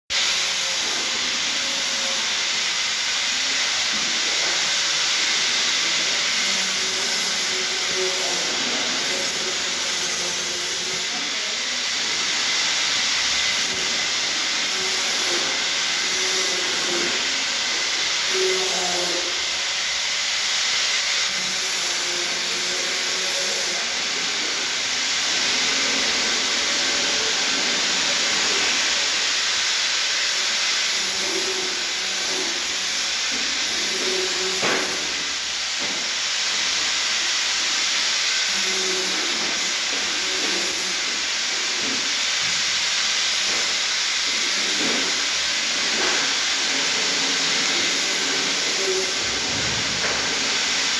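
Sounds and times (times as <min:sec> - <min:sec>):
welding arc hissing: 0:00.1 - 0:50.9.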